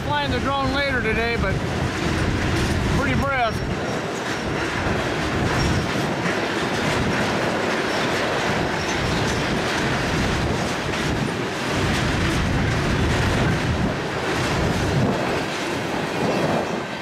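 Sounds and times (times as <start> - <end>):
train wheels rumbling on rails: 0.0 - 17.0
wind buffeting microphone: 0.0 - 17.0.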